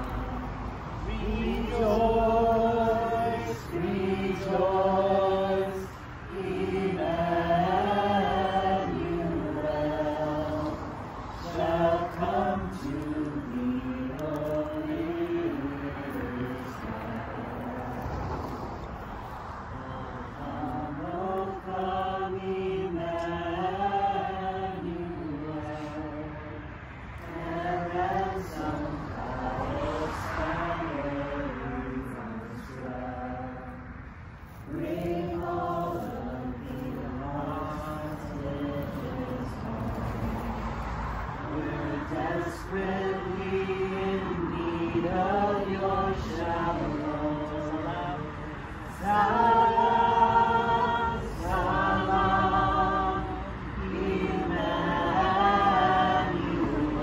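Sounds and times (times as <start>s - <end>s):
group singing a carol: 0.0s - 57.0s.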